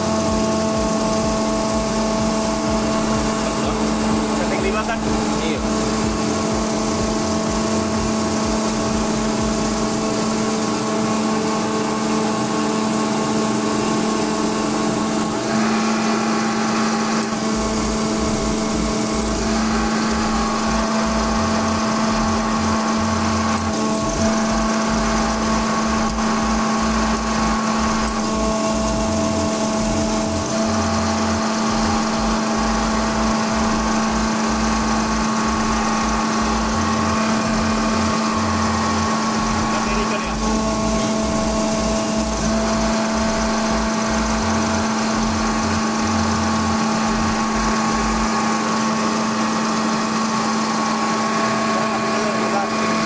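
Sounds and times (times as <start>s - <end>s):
air compressor humming: 0.0s - 53.0s.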